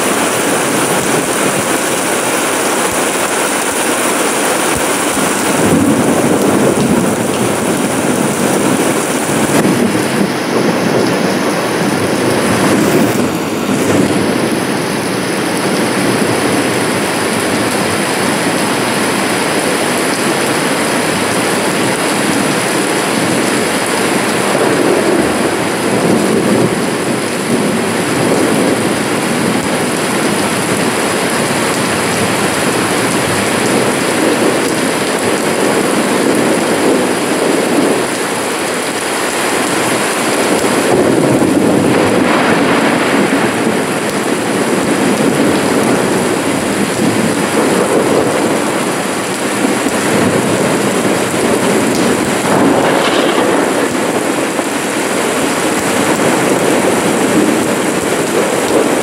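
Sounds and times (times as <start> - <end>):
rain falling on grass: 0.0 - 59.0.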